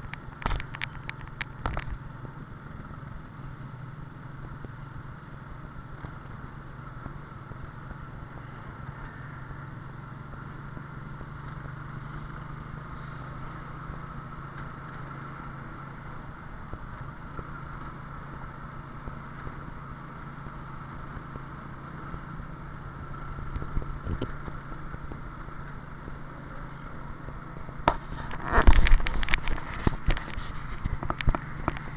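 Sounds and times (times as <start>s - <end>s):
vehicle engine and road hum: 0.0s - 31.9s.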